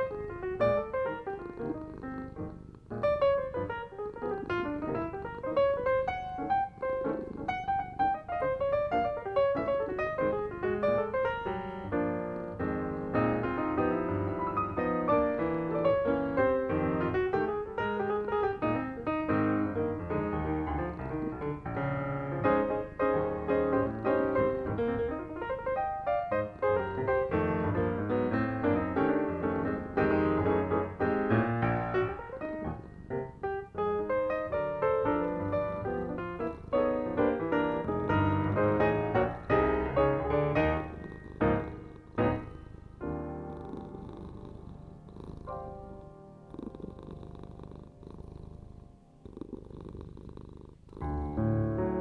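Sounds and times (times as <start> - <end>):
piano music: 0.0 - 49.2, 51.0 - 52.0.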